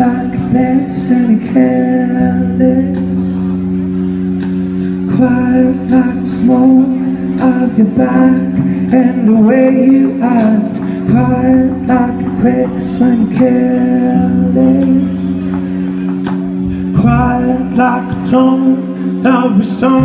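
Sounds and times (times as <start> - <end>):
man singing into microphone: 0.0 - 3.8, 4.5 - 20.0
held keyboard chords: 0.0 - 20.0.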